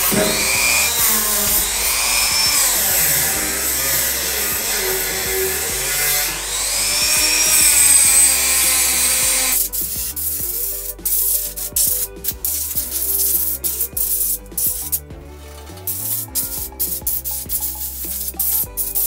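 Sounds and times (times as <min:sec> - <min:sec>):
background music: 0:00.0 - 0:19.0
rotary tool grinding: 0:00.0 - 0:19.0.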